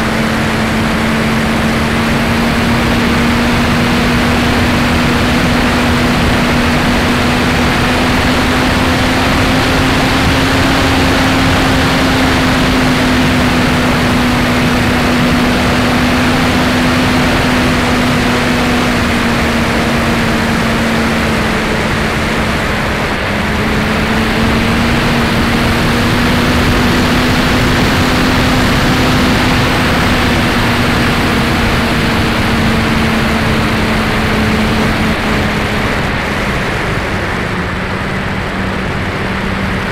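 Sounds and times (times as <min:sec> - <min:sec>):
airflow rush: 0:00.0 - 0:39.9.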